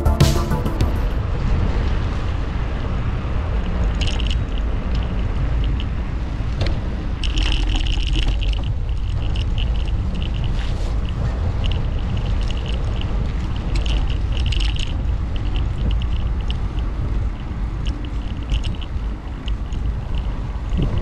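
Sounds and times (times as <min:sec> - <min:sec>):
wind rumbling on microphone: 0:01.2 - 0:21.0.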